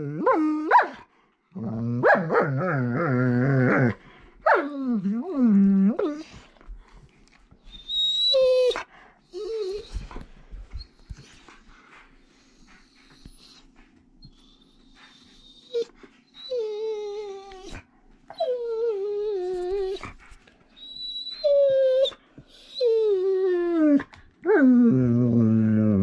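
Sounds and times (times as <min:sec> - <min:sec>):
dog whining and moaning: 0:00.0 - 0:01.0, 0:01.6 - 0:06.6, 0:07.6 - 0:11.4, 0:12.7 - 0:26.0.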